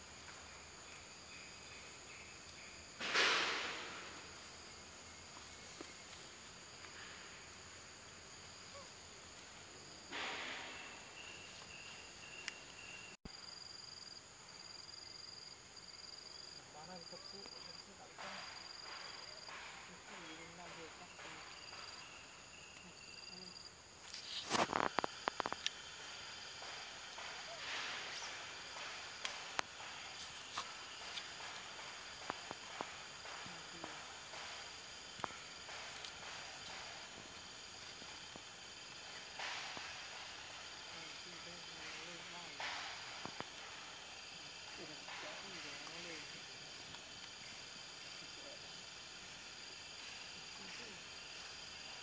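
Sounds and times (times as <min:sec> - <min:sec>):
insects chirping in a drone: 0:00.0 - 0:52.0.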